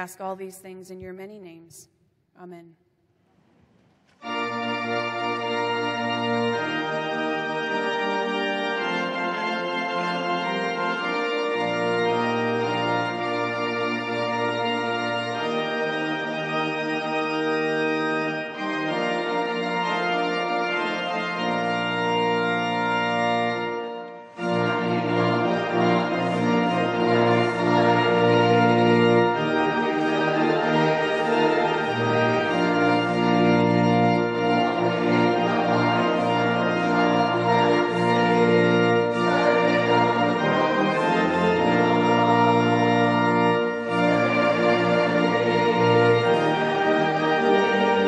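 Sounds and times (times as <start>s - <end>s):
organ playing a hymn: 4.2s - 48.0s.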